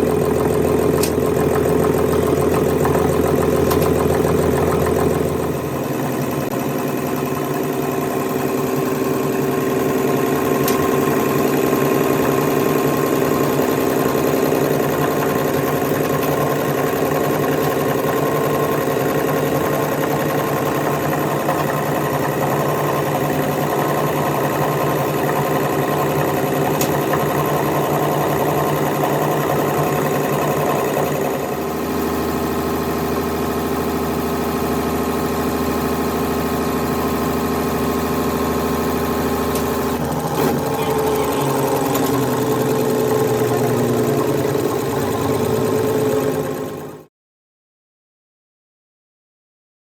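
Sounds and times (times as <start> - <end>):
machine humming: 0.0 - 47.0.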